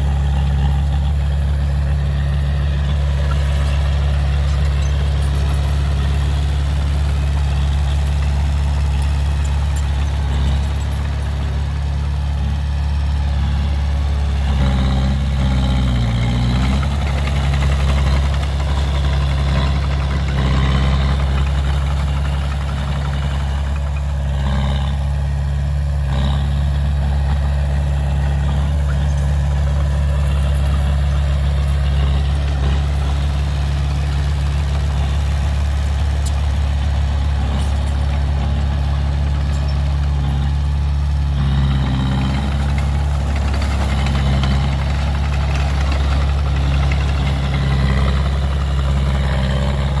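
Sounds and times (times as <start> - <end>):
heavy machine engine idling: 0.0 - 50.0.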